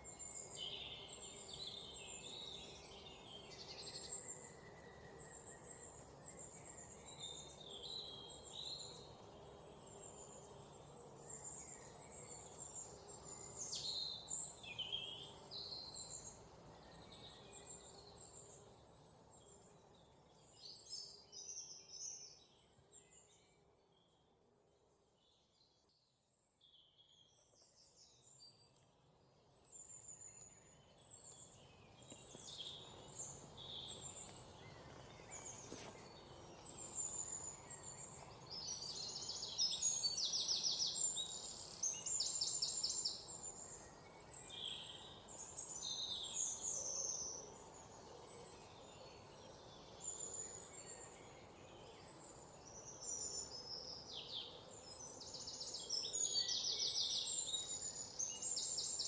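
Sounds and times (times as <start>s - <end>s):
faint background noise: 0.0s - 59.0s
songbirds chirping and trilling: 0.0s - 59.0s.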